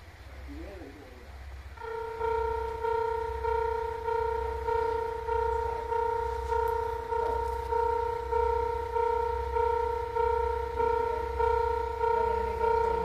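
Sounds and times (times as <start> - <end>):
level-crossing bell ringing: 1.8 - 13.0.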